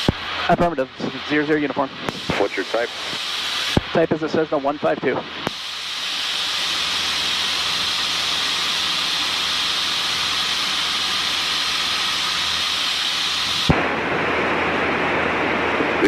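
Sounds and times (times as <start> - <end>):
radio static hiss: 0.0 - 14.2.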